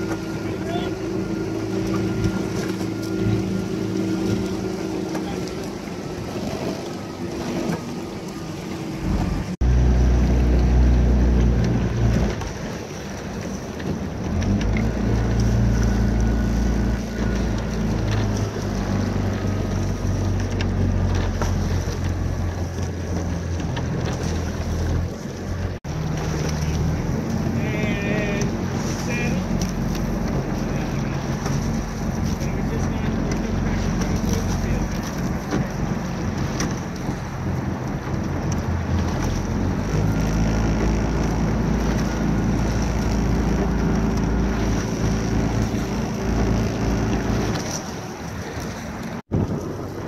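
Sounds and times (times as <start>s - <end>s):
motorboat engine running: 0.0s - 50.0s
wind buffeting microphone: 0.0s - 50.0s.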